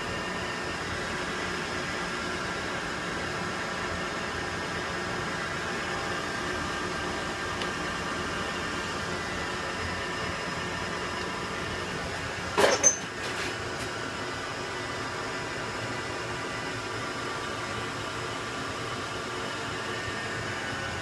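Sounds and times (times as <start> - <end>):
lathe humming and whining: 0.0 - 21.0.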